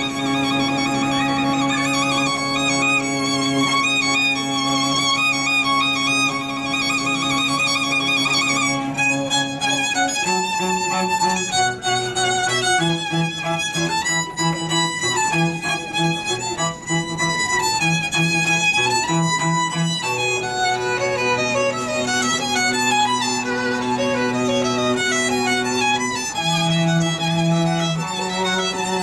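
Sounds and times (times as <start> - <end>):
cello: 0.0 - 29.0
violin: 0.0 - 29.0.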